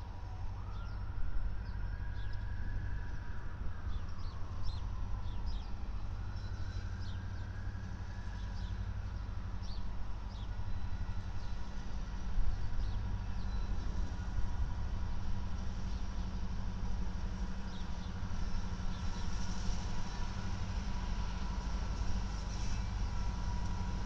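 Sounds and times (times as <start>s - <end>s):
diesel locomotive engines rumbling: 0.0s - 24.0s.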